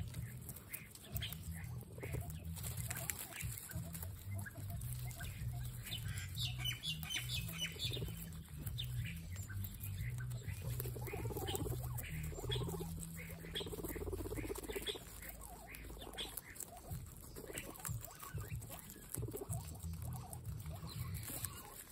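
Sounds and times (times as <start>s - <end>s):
guinea pigs chewing carrots: 0.0s - 21.9s.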